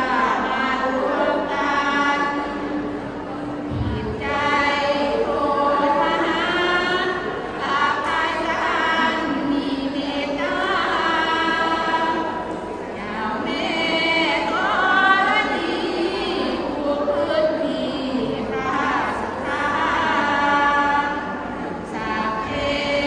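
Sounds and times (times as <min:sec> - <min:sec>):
women chanting together: 0:00.0 - 0:23.0.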